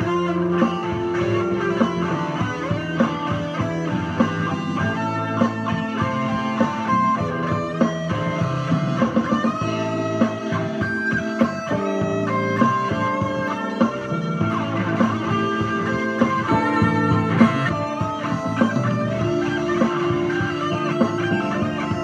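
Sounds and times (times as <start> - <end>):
backing track with bass: 0.0 - 22.0
electric guitar lead: 0.0 - 22.0.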